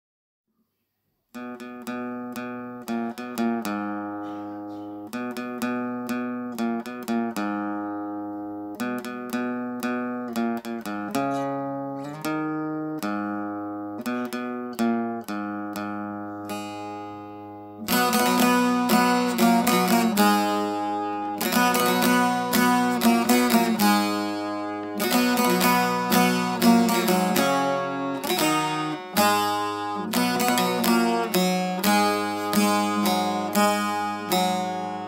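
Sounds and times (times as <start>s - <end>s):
plucked string instrument elegy: 1.4s - 35.0s.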